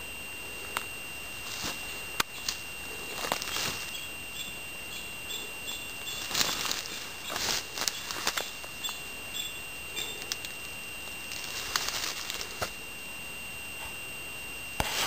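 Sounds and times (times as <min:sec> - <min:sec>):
steady high-pitched tone: 0:00.0 - 0:15.0
undergrowth rustling and crunching: 0:00.6 - 0:12.9.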